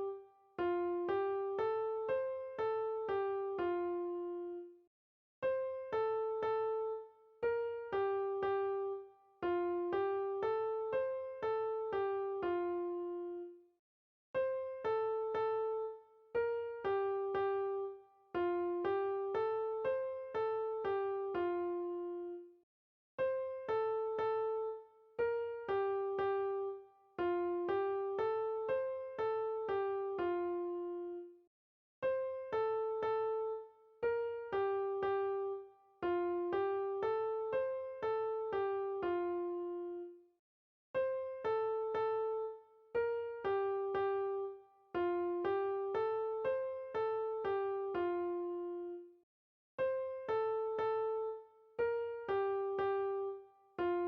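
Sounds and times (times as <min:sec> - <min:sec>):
gentle piano-like keyboard melody: 0:00.0 - 0:13.7, 0:14.4 - 0:22.6, 0:23.2 - 0:40.3, 0:41.0 - 0:49.2, 0:49.8 - 0:54.0.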